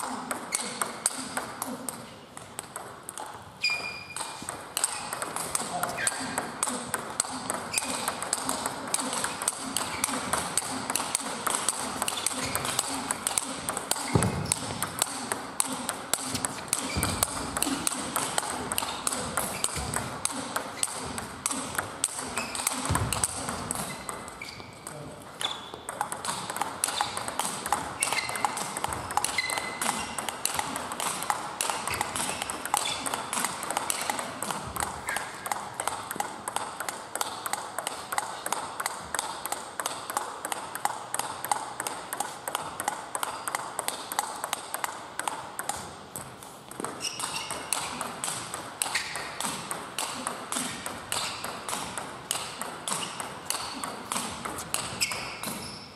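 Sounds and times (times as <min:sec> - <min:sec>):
table tennis balls pinging: 0:00.0 - 0:55.9.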